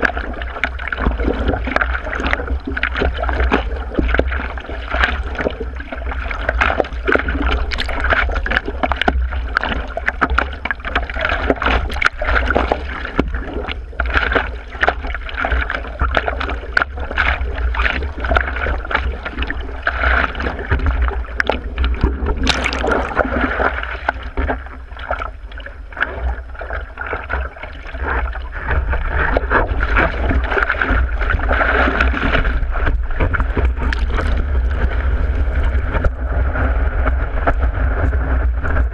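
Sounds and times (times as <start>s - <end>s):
arm strokes slapping water: 0.0s - 36.1s
steady low rumble: 0.0s - 38.9s
water splashing around surfboard: 0.0s - 38.9s
wave breaking: 0.0s - 38.9s.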